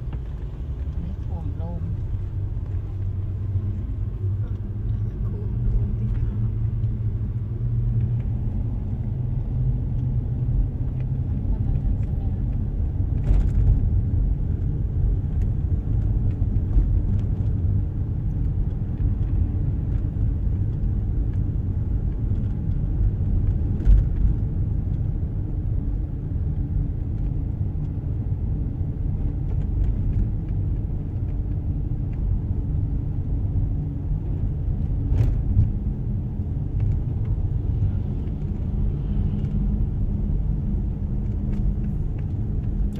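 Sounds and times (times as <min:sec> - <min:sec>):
car driving from inside: 0:00.0 - 0:42.9.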